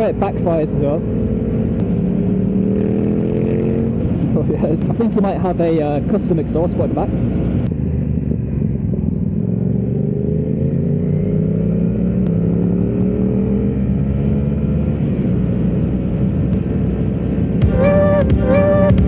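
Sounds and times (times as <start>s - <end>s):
road and wind noise: 0.0s - 19.0s
motorcycle engine accelerating: 0.3s - 5.0s, 7.2s - 19.0s.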